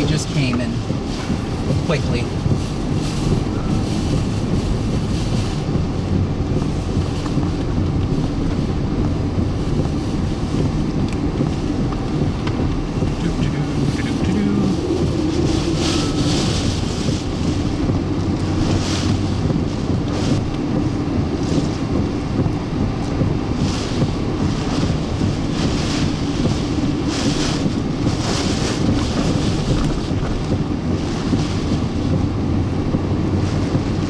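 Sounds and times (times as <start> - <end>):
low rumble: 0.0 - 34.0
rain hissing on vehicle: 0.0 - 34.0
wind battering vehicle: 0.0 - 34.0.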